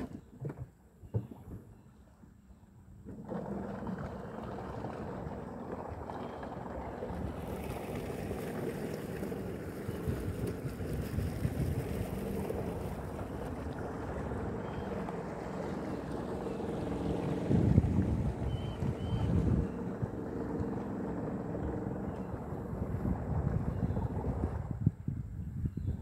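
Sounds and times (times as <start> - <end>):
wind buffeting microphone: 3.9 - 26.0.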